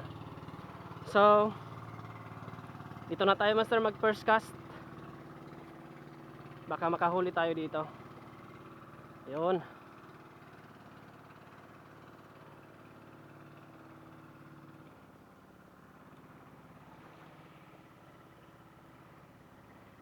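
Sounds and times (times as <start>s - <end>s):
faint engine hum: 0.0s - 20.0s.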